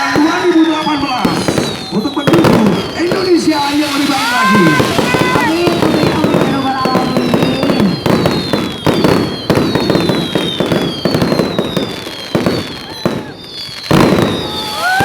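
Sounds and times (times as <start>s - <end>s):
fireworks bangs and crackles: 0.0s - 15.0s
fireworks whistling: 0.0s - 15.0s.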